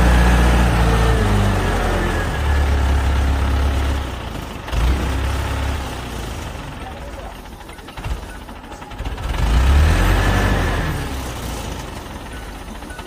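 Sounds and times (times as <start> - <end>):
crane engine running under load: 0.0 - 13.0.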